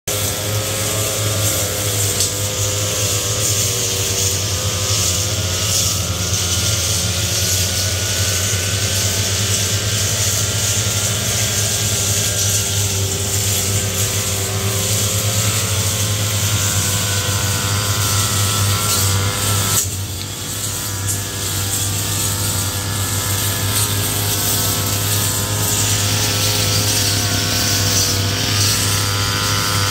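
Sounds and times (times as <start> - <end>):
brush cutter engines: 0.1 - 29.9.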